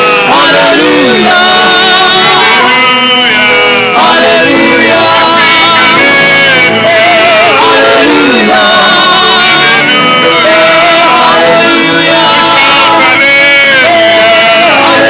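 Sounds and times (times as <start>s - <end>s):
gospel choir singing: 0.0s - 15.0s
live band accompaniment: 0.0s - 15.0s.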